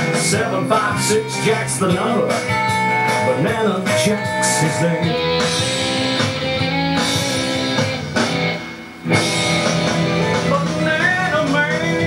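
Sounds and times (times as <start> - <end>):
guitar-led country music: 0.0 - 12.0.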